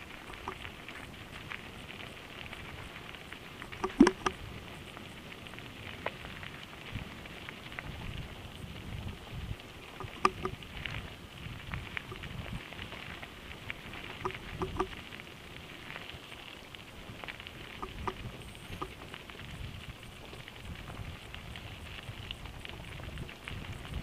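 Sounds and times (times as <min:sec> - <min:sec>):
bike clicking and rattling: 0:00.0 - 0:06.5, 0:09.9 - 0:24.0
bike tyres crunching on gravel: 0:00.0 - 0:24.0.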